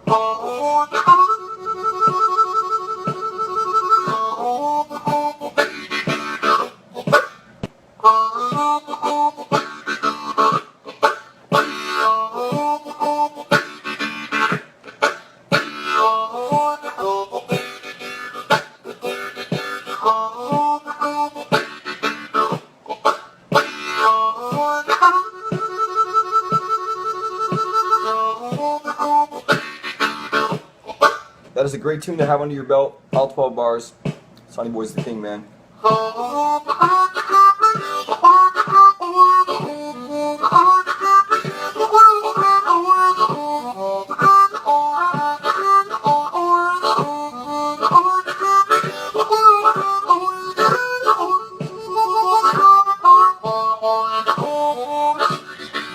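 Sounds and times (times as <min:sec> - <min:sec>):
metronome ticking: 0:00.0 - 0:07.3, 0:08.0 - 0:31.2, 0:34.0 - 0:55.9
harmonica blues chords: 0:00.0 - 0:55.9.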